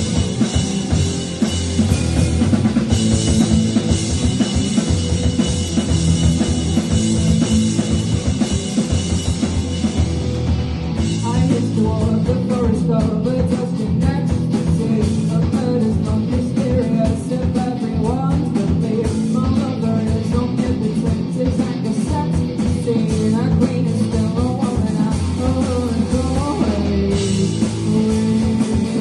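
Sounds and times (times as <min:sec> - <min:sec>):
rock band playing live: 0:00.0 - 0:29.0.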